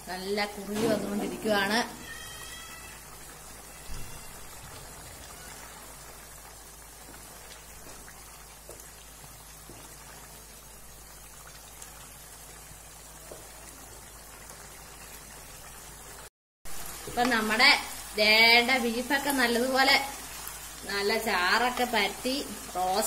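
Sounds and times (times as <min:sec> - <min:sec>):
gravy bubbling and sizzling: 0:00.0 - 0:23.0.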